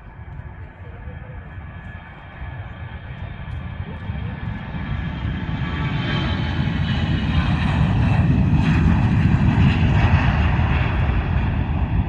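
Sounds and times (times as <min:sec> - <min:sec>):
jet engines at take-off: 0:00.0 - 0:12.0.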